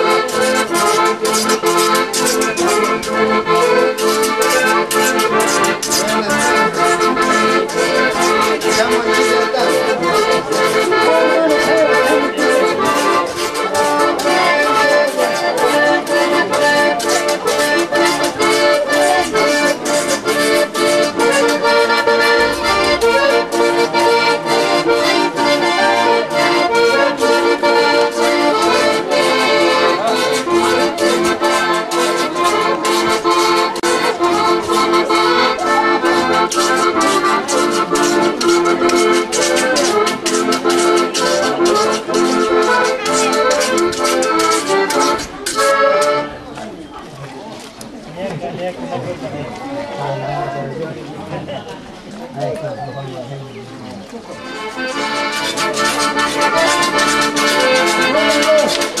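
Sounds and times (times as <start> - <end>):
accordion playing a tune: 0.0 - 47.7, 52.4 - 59.0.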